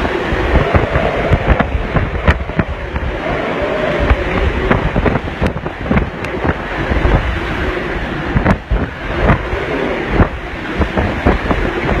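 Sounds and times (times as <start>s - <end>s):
sudden hits in gusts: 0.0s - 7.6s, 8.2s - 12.0s
strong wind buffeting microphone: 0.0s - 12.0s.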